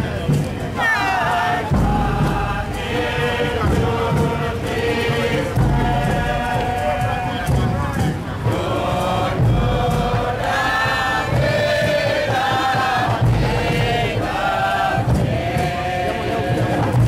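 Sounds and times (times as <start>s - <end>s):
group singing a chant: 0.0s - 17.0s.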